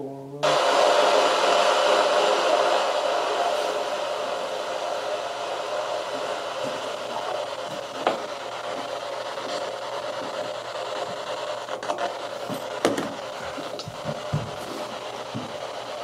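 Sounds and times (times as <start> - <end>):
steady hiss: 0.4 - 16.0.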